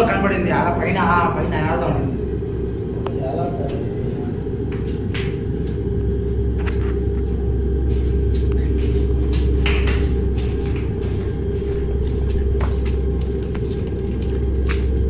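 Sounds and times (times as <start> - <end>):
faint hum: 0.0 - 15.0
steady low rumble: 0.0 - 15.0.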